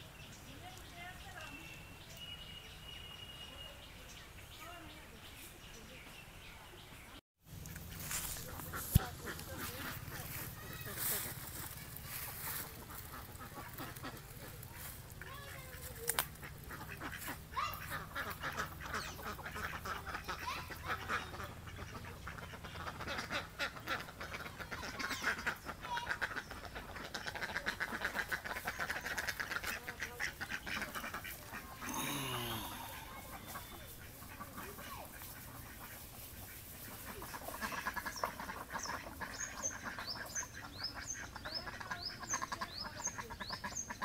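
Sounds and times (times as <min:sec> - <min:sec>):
ducks quacking: 0:07.6 - 0:44.0.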